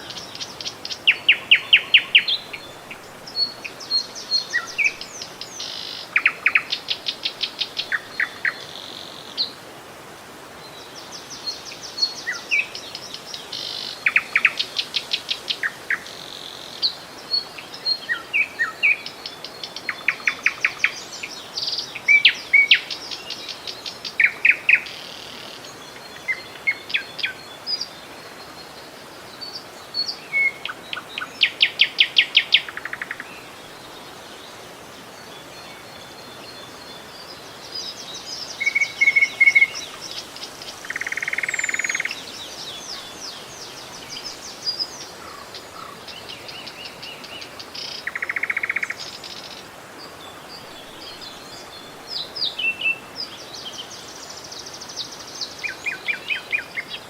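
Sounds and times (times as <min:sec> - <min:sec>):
faint background hiss: 0:00.0 - 0:57.0
songbirds trilling: 0:10.8 - 0:57.0.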